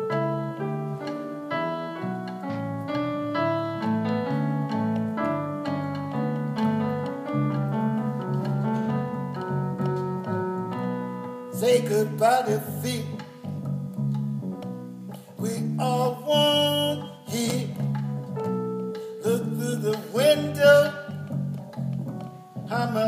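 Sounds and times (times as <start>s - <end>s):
keyboard piano melody over chords: 0.0s - 23.0s.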